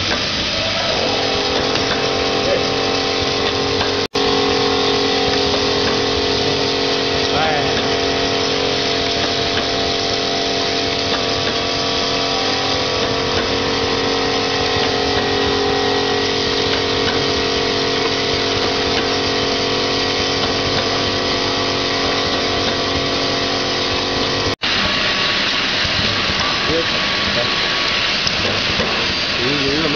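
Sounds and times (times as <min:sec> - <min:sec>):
machine humming and rattling: 0:00.0 - 0:29.9.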